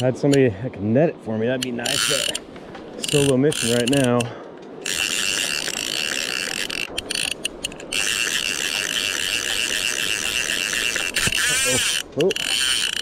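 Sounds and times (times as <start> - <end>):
fishing reel drag buzzing: 1.8 - 2.4, 3.0 - 13.0.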